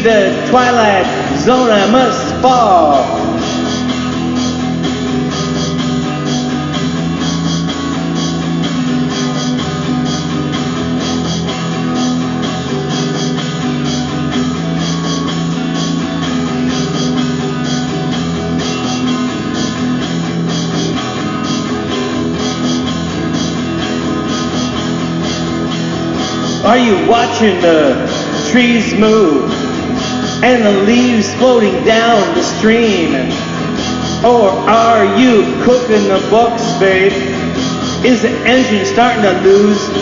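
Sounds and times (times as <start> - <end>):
instrumental rock music: 0.0 - 40.0.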